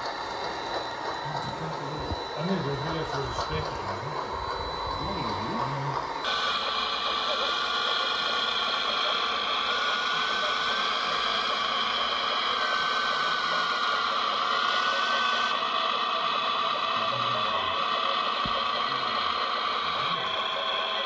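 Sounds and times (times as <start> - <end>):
hydraulic pump whining: 0.0 - 21.0.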